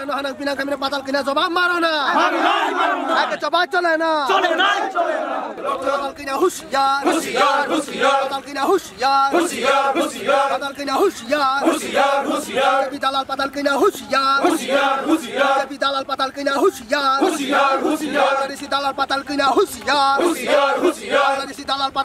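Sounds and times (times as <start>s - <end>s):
men chanting slogans: 1.8s - 3.5s, 4.2s - 22.0s.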